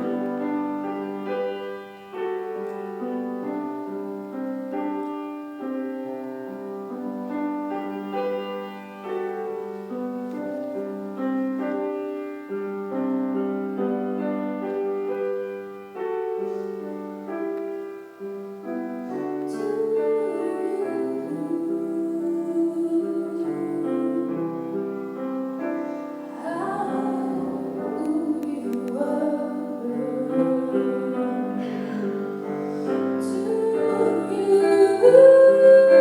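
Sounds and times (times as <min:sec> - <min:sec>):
piano playing slow melody: 0:00.0 - 0:36.0.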